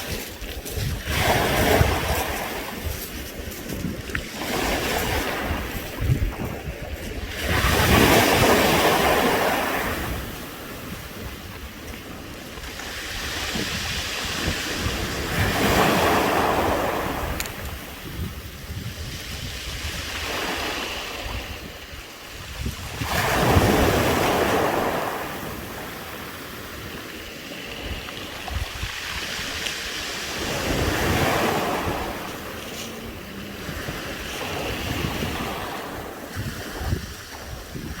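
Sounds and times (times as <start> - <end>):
waves washing up pebble beach: 0.0 - 38.0
wind on microphone: 0.0 - 38.0.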